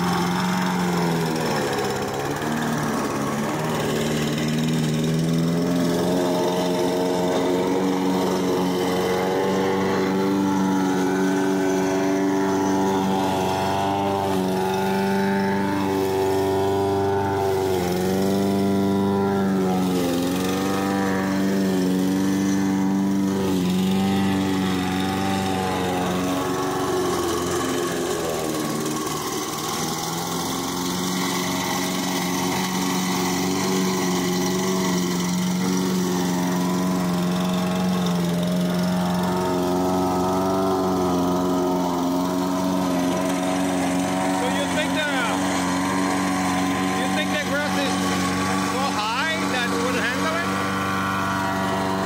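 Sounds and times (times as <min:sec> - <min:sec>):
lawn mower engine running: 0:00.0 - 0:52.0.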